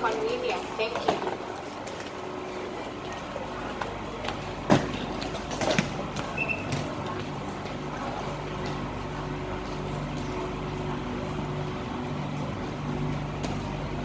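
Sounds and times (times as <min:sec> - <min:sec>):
steady station hum: 0:00.0 - 0:14.0.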